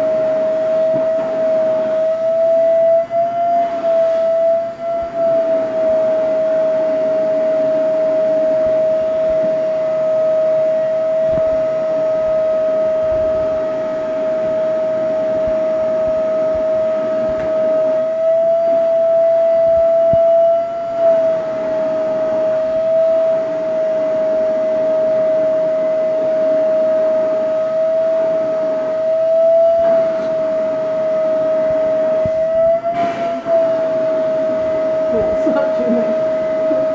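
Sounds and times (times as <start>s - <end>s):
vacuum cleaner whining: 0.0s - 36.9s.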